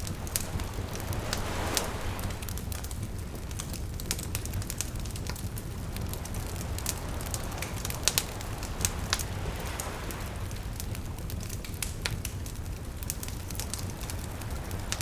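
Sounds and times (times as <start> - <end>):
small waves lapping: 0.0 - 15.0
wood fire crackling and popping: 0.0 - 15.0.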